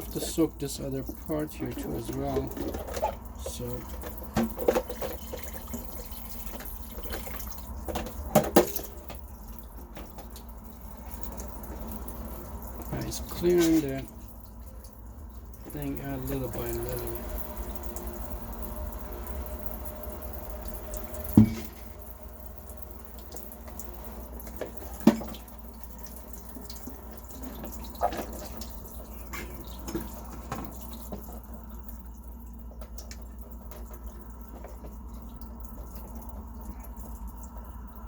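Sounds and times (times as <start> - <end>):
water trickling and dripping: 0.0 - 38.0.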